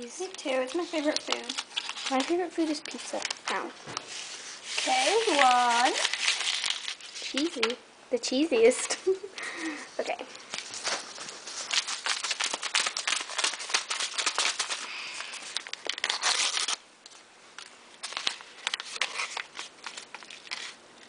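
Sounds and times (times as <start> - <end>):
paper packet crinkling: 0.0 - 7.8, 10.4 - 21.0.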